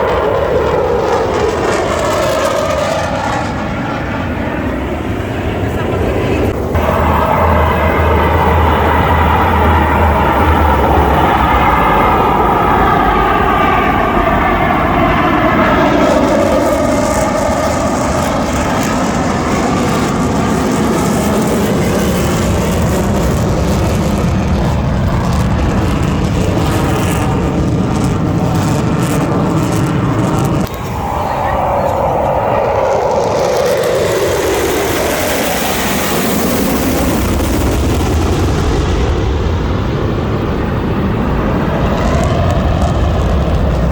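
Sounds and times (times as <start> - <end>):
jet flyby roar: 0.0 - 43.9.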